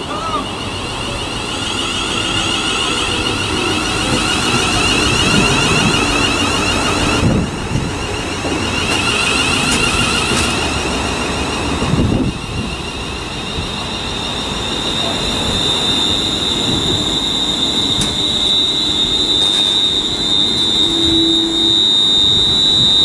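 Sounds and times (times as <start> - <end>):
electric train motor whine: 0.0 - 23.0
train wheels rumbling: 0.0 - 23.0.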